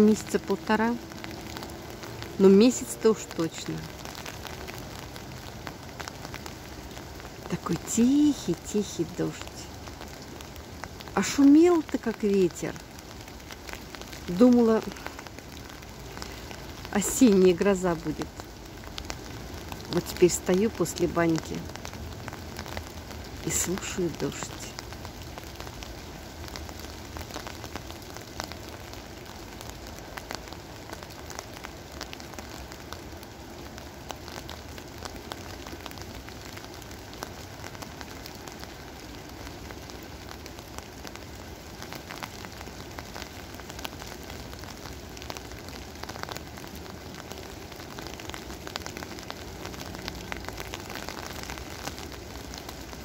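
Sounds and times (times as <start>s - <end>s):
quiet steady rain: 0.0s - 53.0s
raindrops ticking on surfaces: 0.0s - 53.0s.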